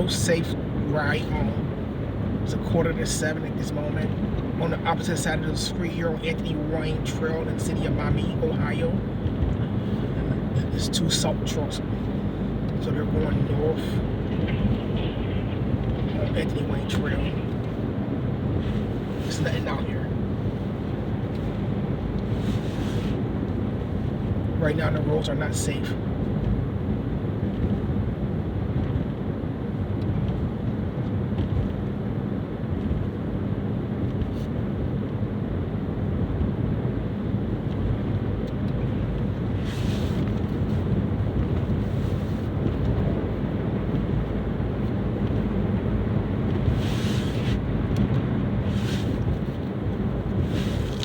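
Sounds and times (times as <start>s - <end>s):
road and engine rumble: 0.0s - 51.0s.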